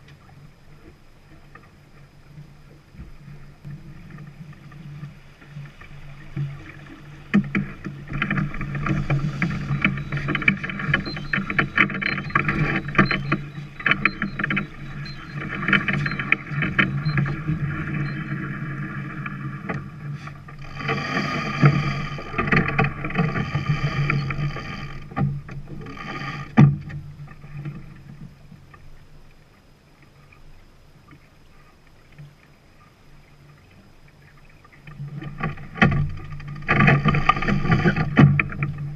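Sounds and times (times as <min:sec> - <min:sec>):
water rushing along hull: 0:00.0 - 0:38.9.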